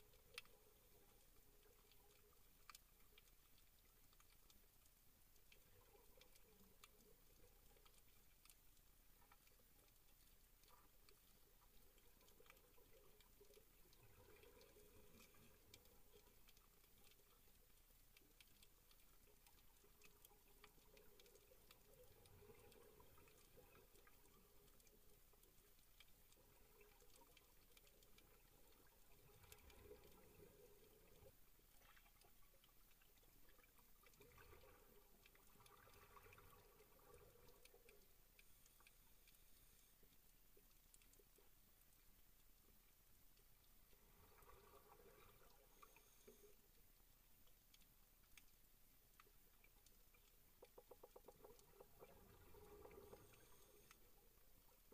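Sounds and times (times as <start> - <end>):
soft underwater swell: 0.0 - 54.9
underwater crackling clicks: 0.0 - 54.9.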